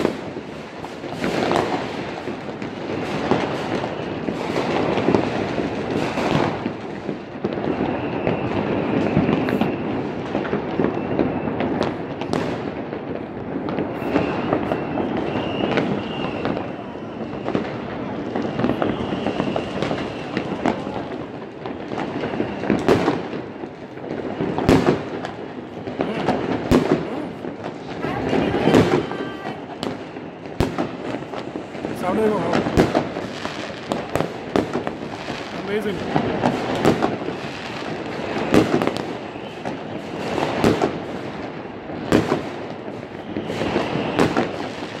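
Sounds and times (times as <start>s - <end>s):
distant fireworks crackling: 0.0s - 45.0s
loud sharp firework bangs: 0.0s - 45.0s.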